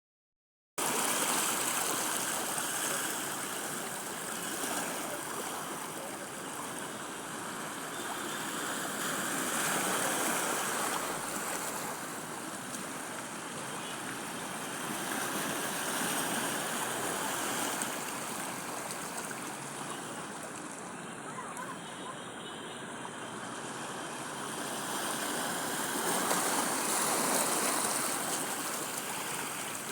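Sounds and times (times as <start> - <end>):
surf washing onto beach: 0.8 - 21.0, 23.1 - 29.9.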